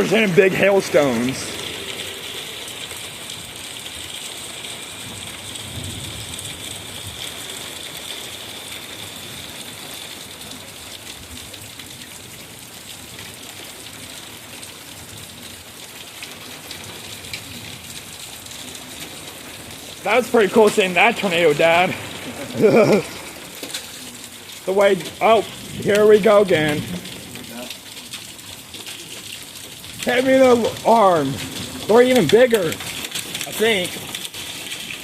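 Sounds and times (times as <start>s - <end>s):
rain and hail falling: 0.0s - 35.0s.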